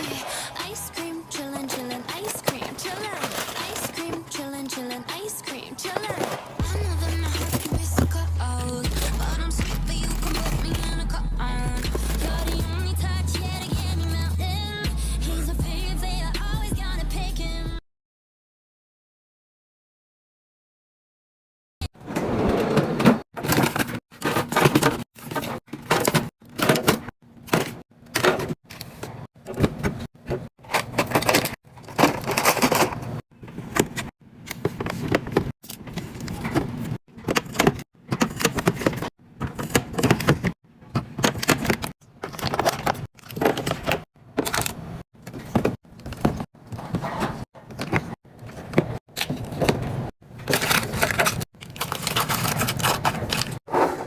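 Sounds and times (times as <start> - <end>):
items and packaging handled: 0.0 - 12.8, 22.1 - 54.0.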